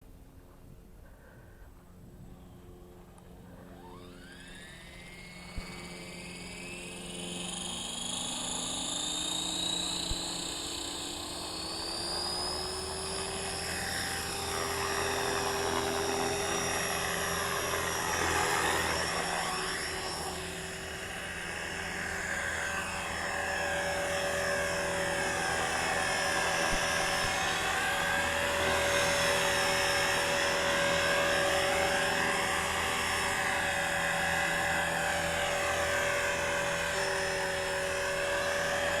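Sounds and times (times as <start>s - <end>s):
rc helicopter motor and gear whine: 1.8s - 39.0s
wavering rotor sound: 1.8s - 39.0s
abnormal rotor drive noise: 2.2s - 39.0s.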